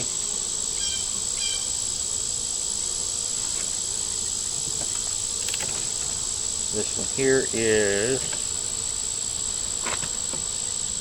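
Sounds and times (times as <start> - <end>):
high-pitched insect drone: 0.0 - 11.0
honey bees buzzing: 0.0 - 11.0.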